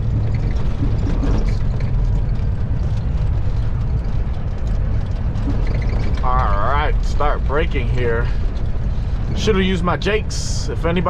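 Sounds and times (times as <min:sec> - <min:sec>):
road noise: 0:00.0 - 0:11.0
truck diesel engine rumble: 0:00.0 - 0:11.0.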